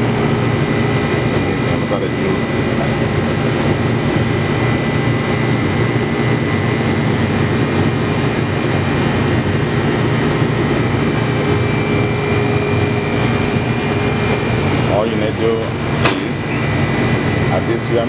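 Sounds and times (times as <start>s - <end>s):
faint steady whine: 0.0s - 18.0s
ventilation fan: 0.0s - 18.0s.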